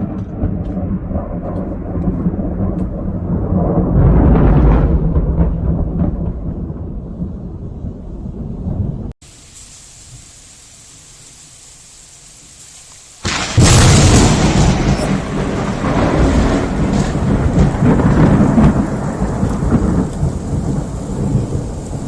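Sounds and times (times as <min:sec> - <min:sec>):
thunderclap with rolling rumble: 0:00.0 - 0:09.2, 0:13.2 - 0:22.0.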